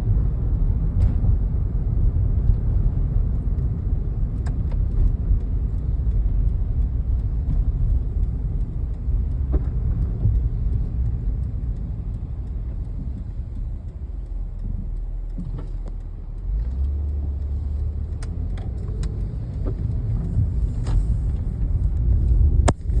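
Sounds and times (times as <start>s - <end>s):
car road rumble: 0.0s - 23.0s
faint clicks: 3.3s - 23.0s.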